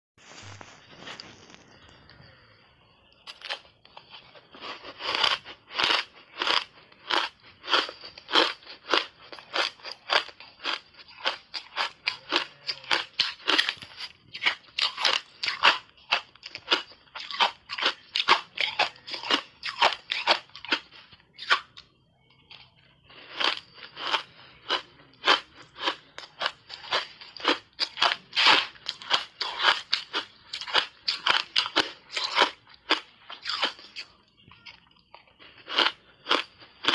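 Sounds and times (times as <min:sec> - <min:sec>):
ice crunching in mouth: 0:03.2 - 0:21.9, 0:23.2 - 0:36.9.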